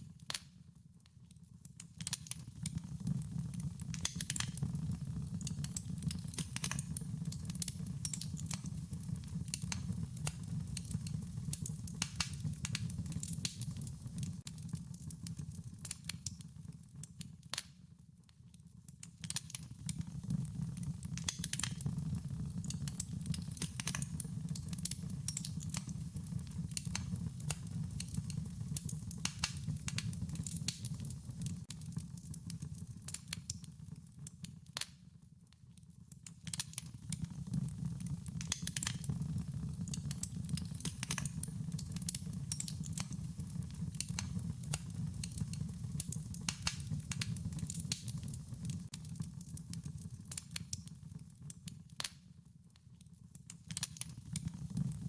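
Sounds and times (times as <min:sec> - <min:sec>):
wood fire crackling: 0:00.0 - 0:35.0, 0:36.0 - 0:52.2, 0:53.4 - 0:55.0
low rumble of burning: 0:01.6 - 0:17.6, 0:19.2 - 0:33.6, 0:36.5 - 0:52.1.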